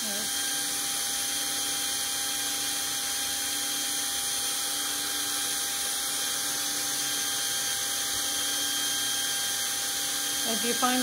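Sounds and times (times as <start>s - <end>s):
cordless drill grinding china: 0.0s - 11.0s.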